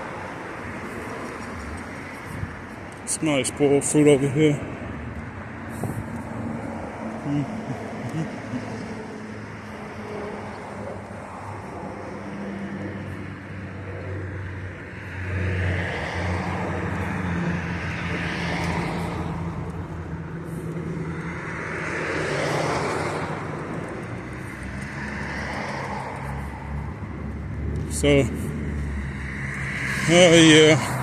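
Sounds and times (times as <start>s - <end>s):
cars passing: 0.0s - 31.0s.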